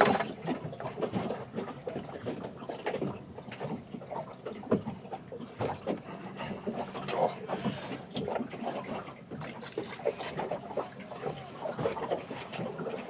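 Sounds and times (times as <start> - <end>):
sea wash: 0.0 - 13.0
wind: 0.0 - 13.0.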